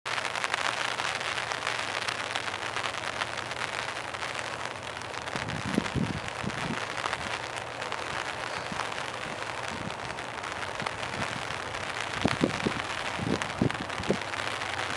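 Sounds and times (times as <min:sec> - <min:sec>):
heavy rain falling: 0:00.1 - 0:14.9.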